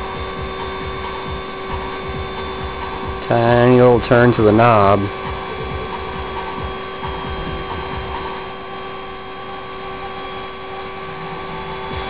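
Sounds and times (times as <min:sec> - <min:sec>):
device humming with pitched tones: 0:00.0 - 0:12.0
low rumble: 0:00.0 - 0:12.0.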